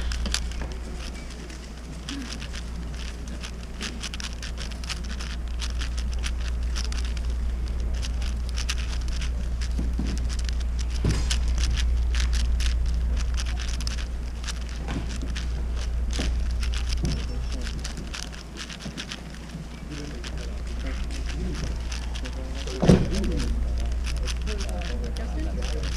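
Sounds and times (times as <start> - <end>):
low hum: 0.0 - 25.9
plastic puzzle cube clicking: 0.0 - 25.9.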